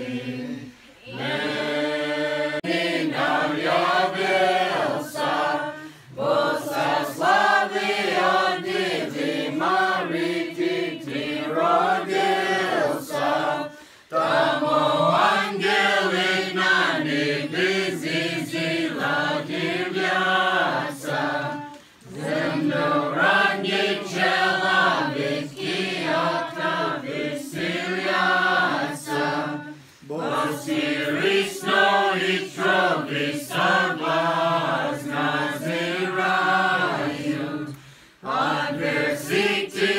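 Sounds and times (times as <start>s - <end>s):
crowd singing a carol: 0.0s - 39.9s.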